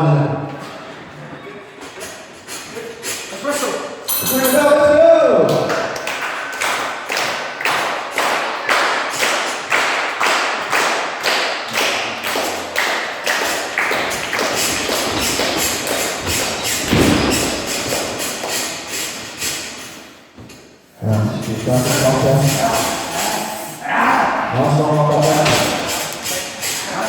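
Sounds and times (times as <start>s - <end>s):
rhythmic thumps echoing in a hall: 1.9s - 27.0s.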